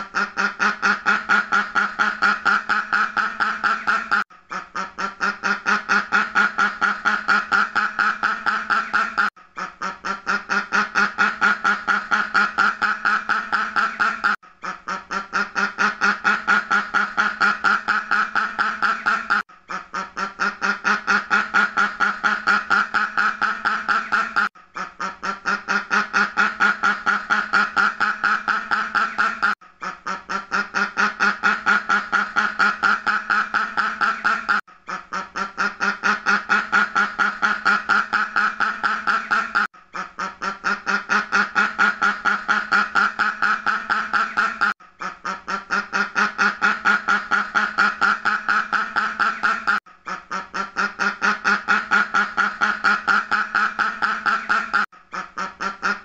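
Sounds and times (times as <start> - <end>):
duck quacking: 0.0 - 56.0.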